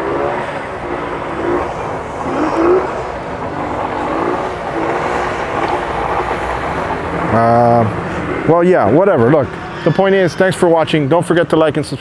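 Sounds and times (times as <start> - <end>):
propeller churning water: 0.0 - 9.7.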